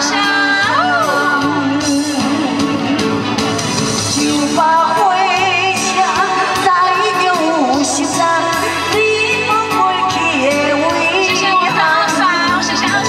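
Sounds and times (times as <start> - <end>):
woman singing into microphone: 0.0 - 3.2, 4.1 - 13.0
backing music: 0.0 - 13.0.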